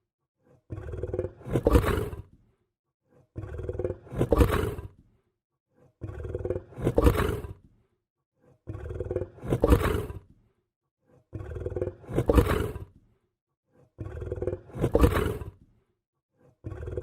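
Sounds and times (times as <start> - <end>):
lion growling: 0.4 - 7.8, 8.4 - 17.0.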